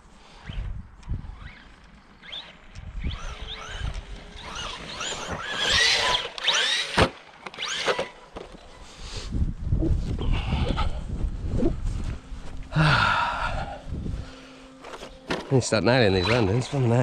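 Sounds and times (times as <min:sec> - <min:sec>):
electric motor whining: 0:00.3 - 0:08.7, 0:10.0 - 0:17.0.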